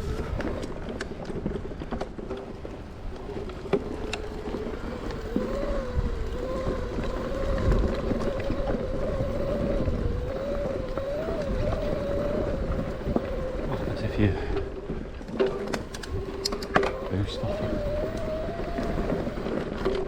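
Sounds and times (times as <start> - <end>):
electric bike motor whining: 0.0 - 20.0.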